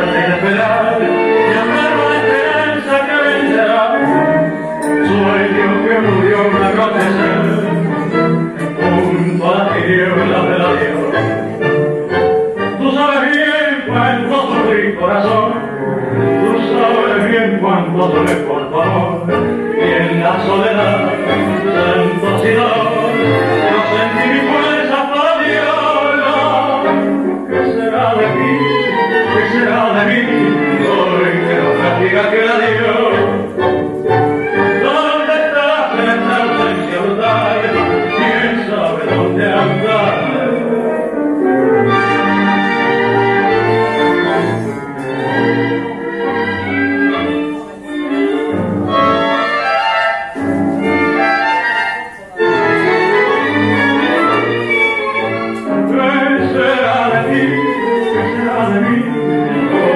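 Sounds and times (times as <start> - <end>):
orchestral tango music: 0.0 - 59.9.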